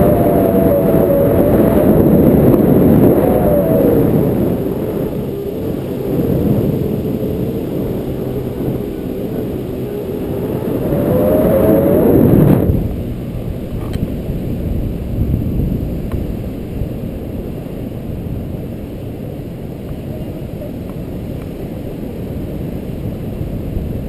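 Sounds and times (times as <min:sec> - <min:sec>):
motorboat engine running: 0:00.0 - 0:23.9
rushing water noise: 0:00.0 - 0:24.0.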